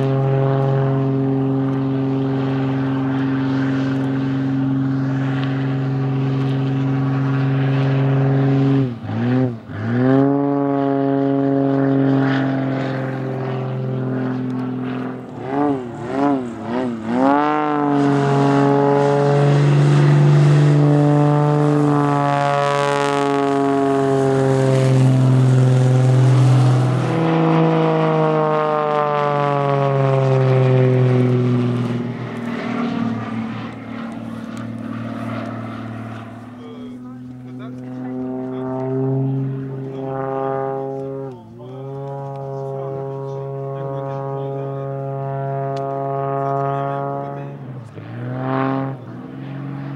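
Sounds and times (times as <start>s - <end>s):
propeller plane engine droning: 0.0s - 49.9s.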